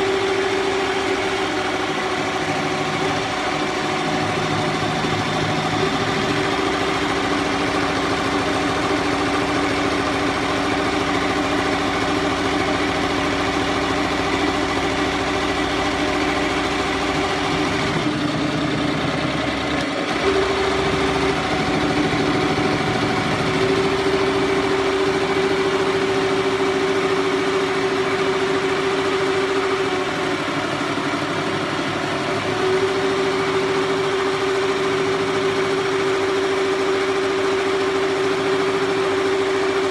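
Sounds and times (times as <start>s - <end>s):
motor hum: 0.0s - 39.9s.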